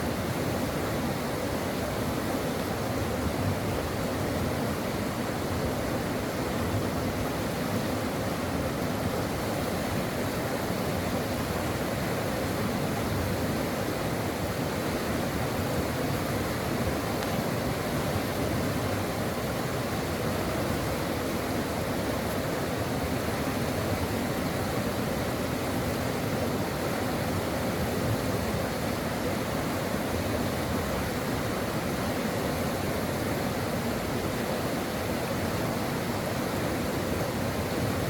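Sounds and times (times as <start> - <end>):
stream water flowing: 0.0 - 38.0.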